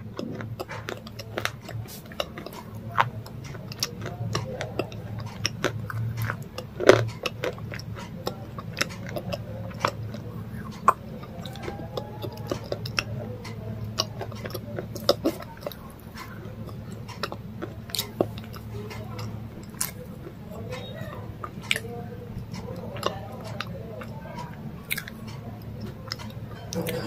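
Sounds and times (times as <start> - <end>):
person chewing food: 0.0 - 27.0
steady low hum: 0.0 - 27.0.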